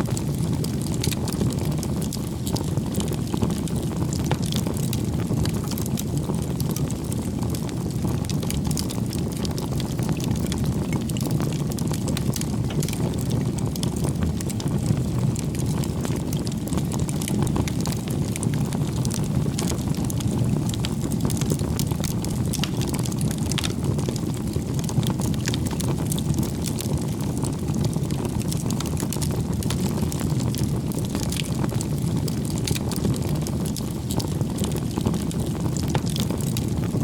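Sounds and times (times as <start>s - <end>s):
burning wood crackling and popping: 0.0s - 37.0s
low rumble of flames: 0.0s - 37.0s.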